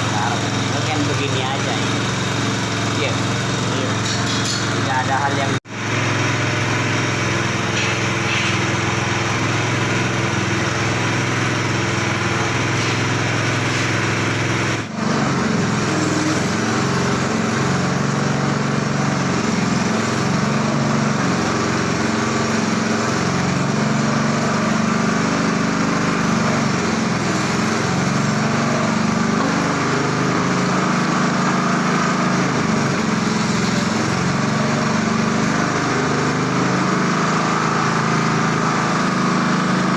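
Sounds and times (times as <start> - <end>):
machine motor droning: 0.0 - 39.9.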